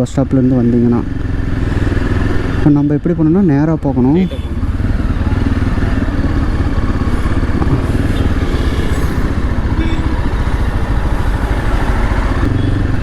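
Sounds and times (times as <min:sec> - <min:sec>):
motorcycle engine running: 0:00.4 - 0:13.0.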